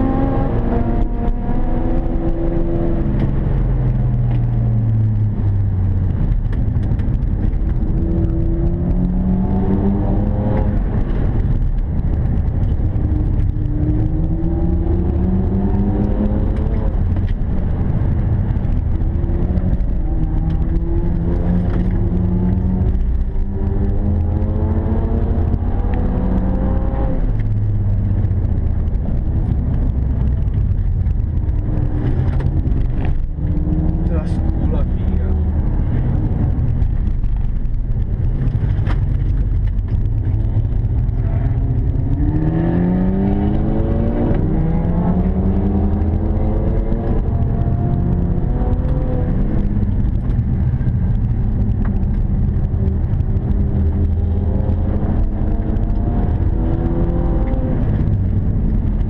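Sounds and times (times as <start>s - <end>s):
car engine revving: 0.0s - 59.0s
road and tyre noise: 0.0s - 59.0s.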